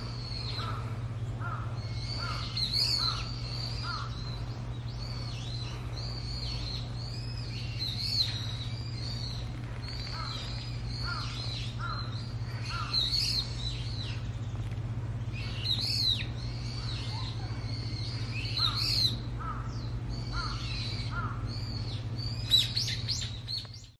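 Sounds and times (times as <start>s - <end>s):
birds chirping: 0.0s - 23.9s
steady low hum: 0.0s - 23.9s.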